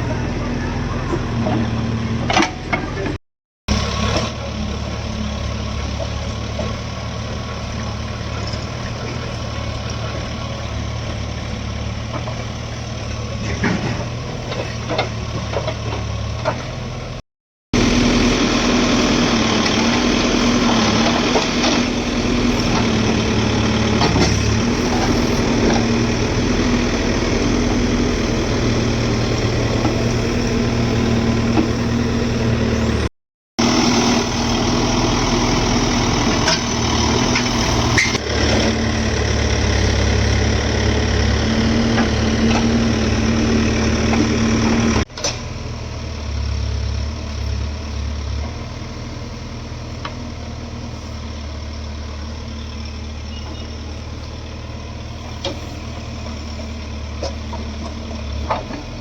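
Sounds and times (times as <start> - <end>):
diesel engines running: 0.0 - 17.2, 17.8 - 59.0.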